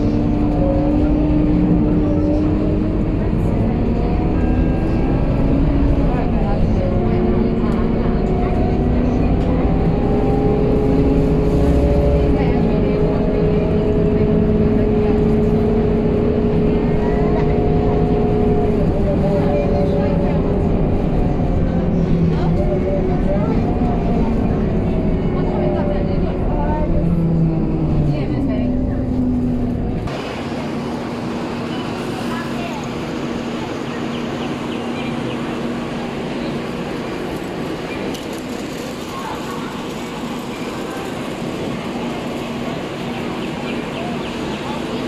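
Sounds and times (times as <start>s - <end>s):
bus diesel engine droning: 0.0s - 45.0s
constant engine whine: 0.0s - 45.0s
road and tyre noise: 0.0s - 45.0s.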